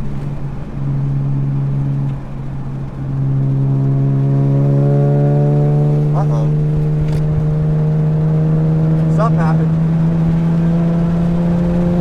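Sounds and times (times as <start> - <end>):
car engine heard from cabin: 0.0 - 12.0.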